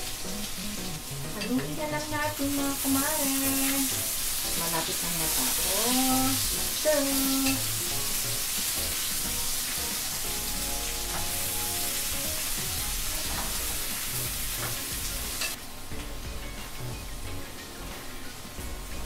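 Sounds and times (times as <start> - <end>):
potatoes sizzling in butter: 0.0 - 15.8.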